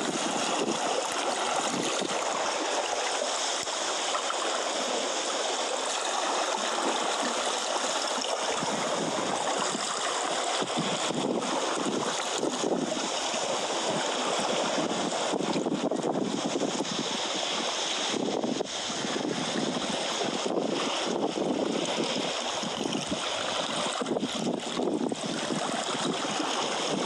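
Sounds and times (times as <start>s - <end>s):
seawater washing against rocks: 0.0s - 27.0s.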